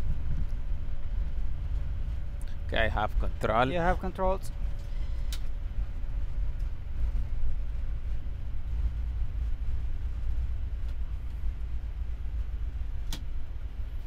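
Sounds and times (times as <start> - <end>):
airliner rolling and braking rumble: 0.0 - 14.0.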